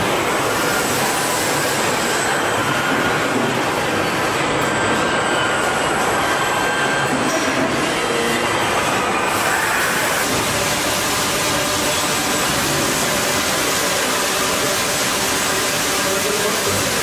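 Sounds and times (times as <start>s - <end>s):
machine hiss and rumble: 0.0s - 17.0s.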